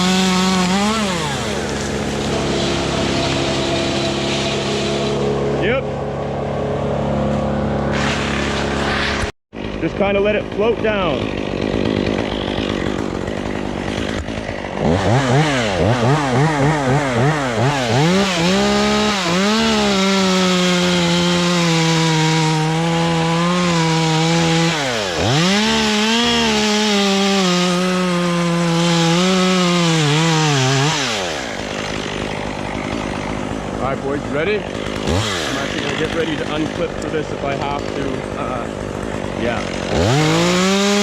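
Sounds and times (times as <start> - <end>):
chainsaw cutting wood: 0.0 - 41.0.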